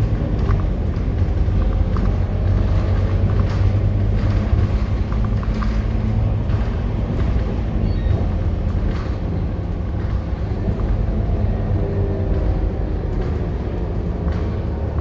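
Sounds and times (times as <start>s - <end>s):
bus diesel engine running: 0.0s - 15.0s
road noise: 0.0s - 15.0s.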